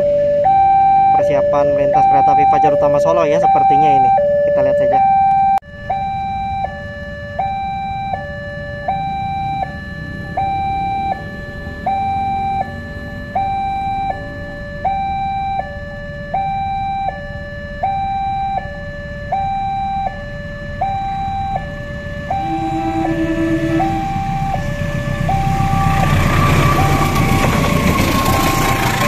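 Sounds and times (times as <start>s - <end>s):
two-tone crossing alarm: 0.0s - 29.0s.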